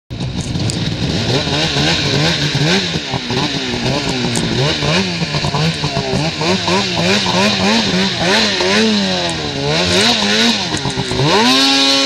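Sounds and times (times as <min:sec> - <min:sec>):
snowmobile engine revving: 0:00.1 - 0:12.0.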